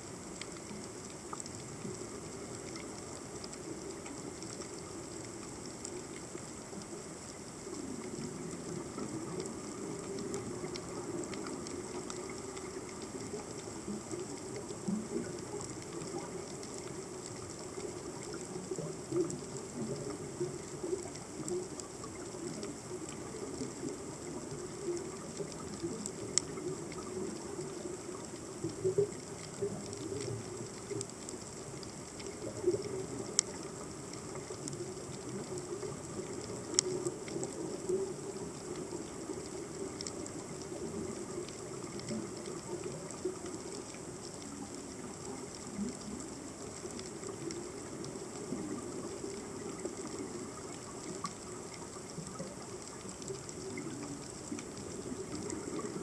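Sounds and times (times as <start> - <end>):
low rush of water underwater: 0.0 - 56.0.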